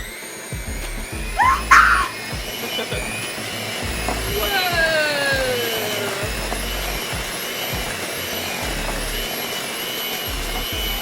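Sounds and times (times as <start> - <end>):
electric kitchen mixer whirring: 0.0 - 11.0.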